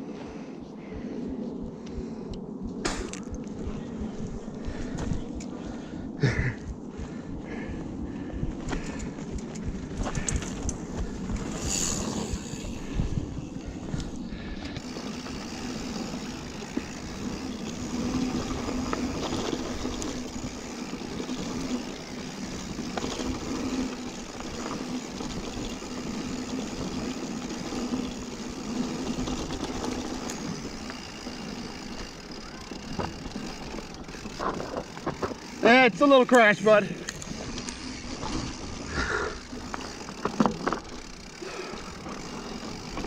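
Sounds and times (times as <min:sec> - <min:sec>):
bike tyres rolling on dirt: 0:02.9 - 0:43.0
bike clicking and rattling: 0:07.6 - 0:43.0.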